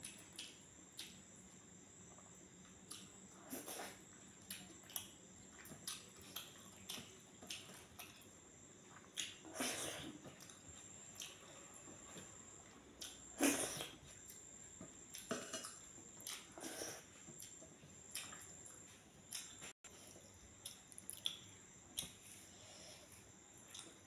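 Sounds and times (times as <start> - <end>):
person chewing and lip smacking: 0.0 - 1.6, 2.2 - 22.4, 23.2 - 24.0.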